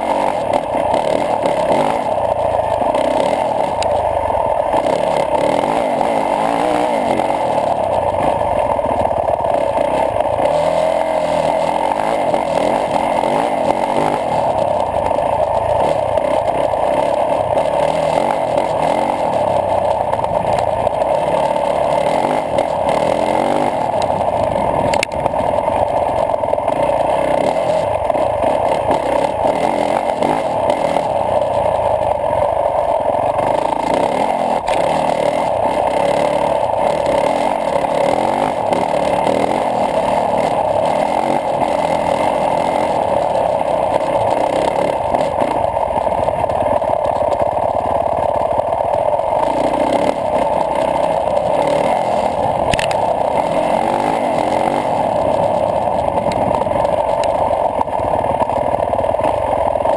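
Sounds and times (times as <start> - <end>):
muffled motorcycle engine running: 0.0 - 59.9.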